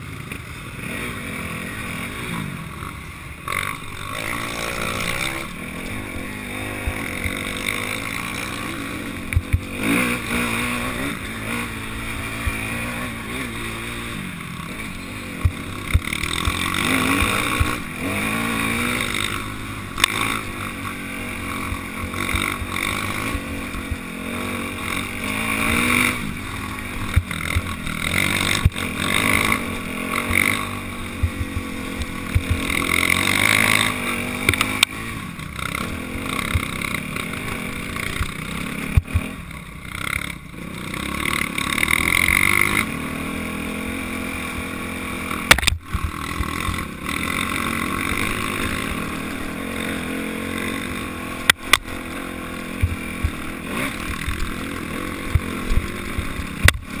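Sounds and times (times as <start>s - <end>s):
knocks and rattles of bike: 0.0s - 57.0s
motorcycle engine revving: 0.0s - 57.0s.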